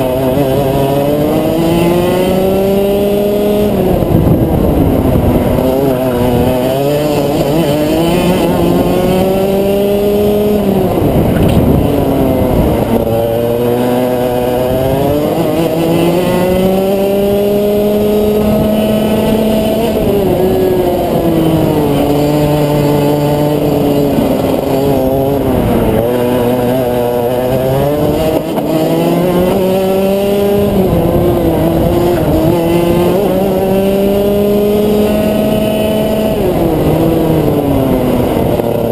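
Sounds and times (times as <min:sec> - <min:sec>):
kart engine racing: 0:00.0 - 0:38.9.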